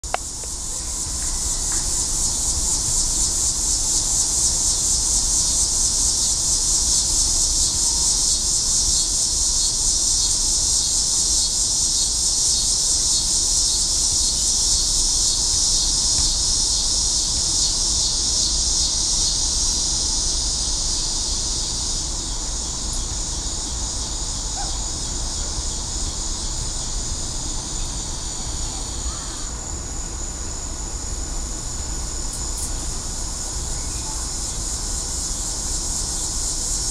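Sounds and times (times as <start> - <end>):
insects trilling: 0.1 - 36.9.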